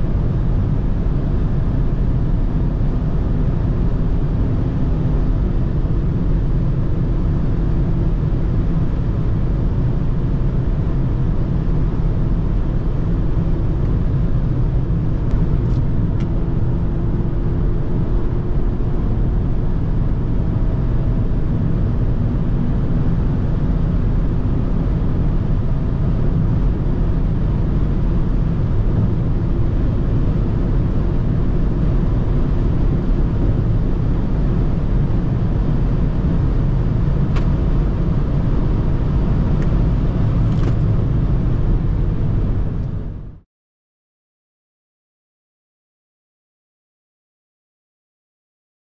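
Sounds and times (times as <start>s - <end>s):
car engine droning: 0.0s - 43.4s.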